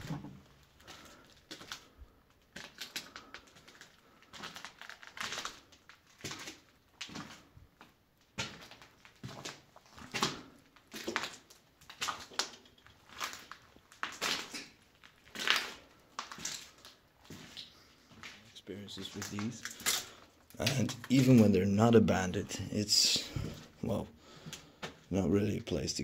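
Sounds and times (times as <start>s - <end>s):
footsteps crunching on debris: 0.0s - 21.6s.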